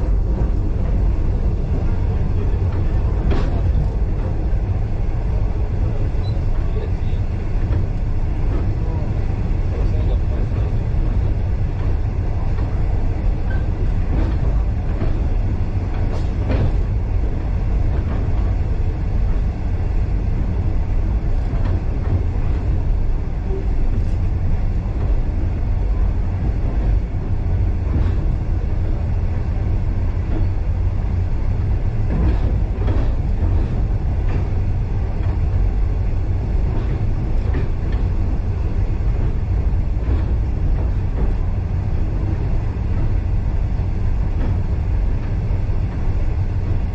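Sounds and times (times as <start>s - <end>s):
train carriage rumbling on rails: 0.0s - 46.9s.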